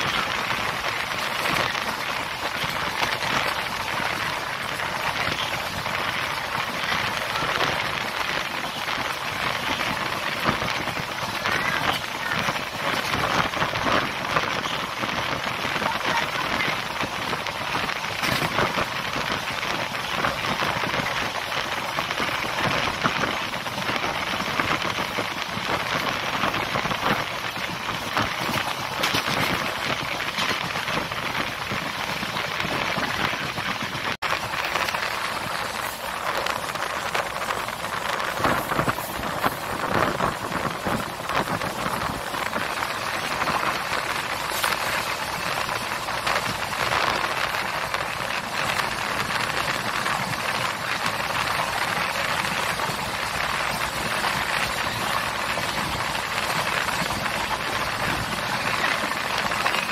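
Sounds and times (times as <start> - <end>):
train wheels rattling on track: 0.0 - 59.9.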